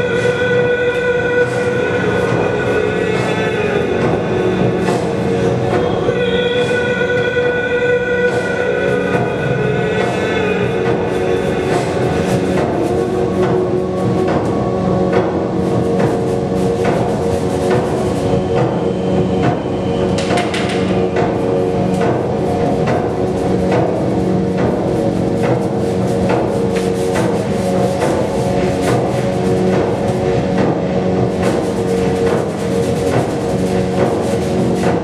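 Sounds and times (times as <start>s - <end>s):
background music with held notes: 0.0s - 35.0s.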